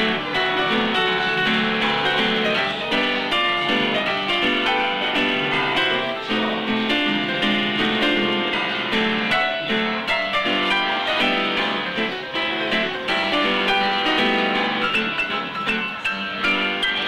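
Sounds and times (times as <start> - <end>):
upright piano playing: 0.0 - 17.0.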